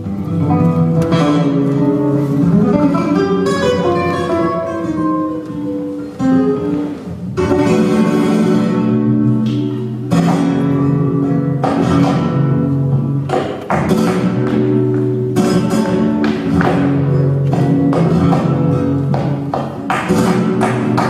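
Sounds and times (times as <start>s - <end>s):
flamenco guitar strumming: 0.0s - 21.0s.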